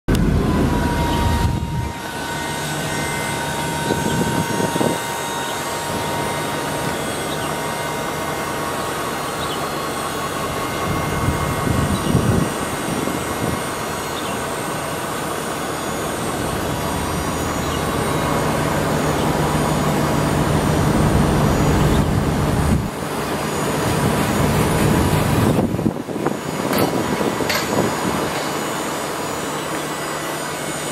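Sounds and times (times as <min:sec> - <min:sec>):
truck hoist mechanical hum: 0:00.1 - 0:30.9.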